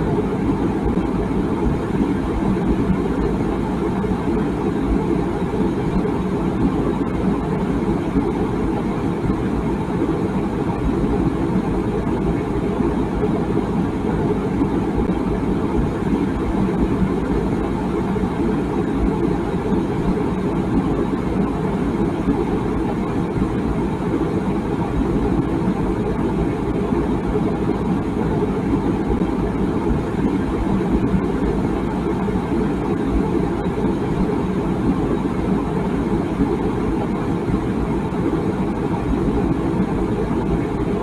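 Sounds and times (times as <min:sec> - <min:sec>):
water boiling in a kettle: 0:00.0 - 0:41.0.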